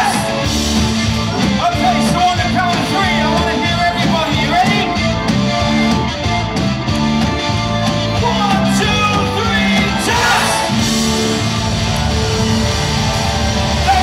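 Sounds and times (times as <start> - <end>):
rock band with singer: 0.0 - 14.0.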